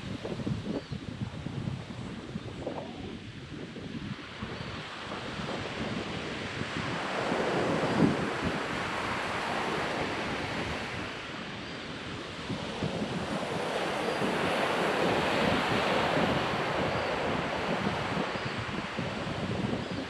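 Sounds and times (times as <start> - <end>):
wind buffeting microphone: 0.0 - 20.0
ocean surf on beach: 3.1 - 20.0.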